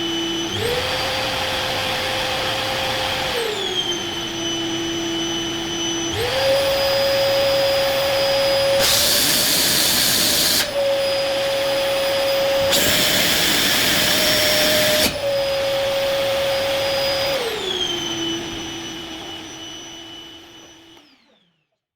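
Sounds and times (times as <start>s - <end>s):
vacuum cleaner motor whine: 0.0s - 21.9s.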